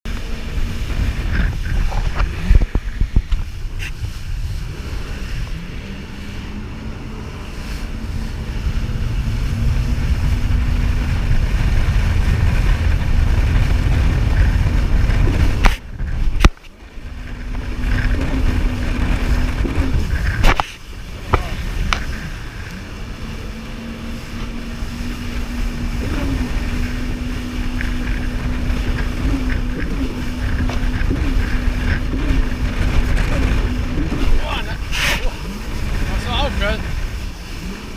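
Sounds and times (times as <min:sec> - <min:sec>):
jet ski engine running: 0:00.0 - 0:37.9
low rumble: 0:00.0 - 0:37.9
wind on microphone: 0:00.0 - 0:37.9.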